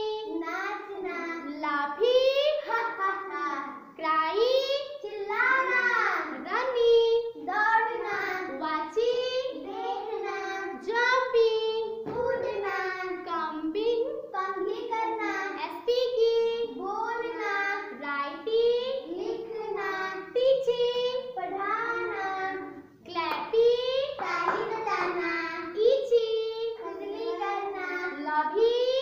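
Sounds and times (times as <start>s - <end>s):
girl singing a sing-song chant: 0.0s - 29.0s.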